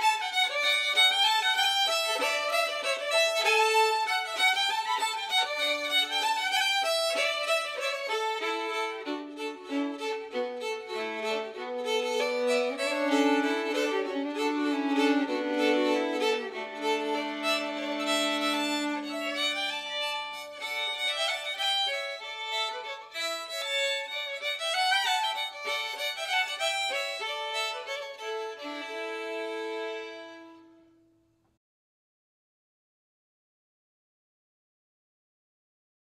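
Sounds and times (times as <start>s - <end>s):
folk fiddle tune: 0.0s - 31.0s.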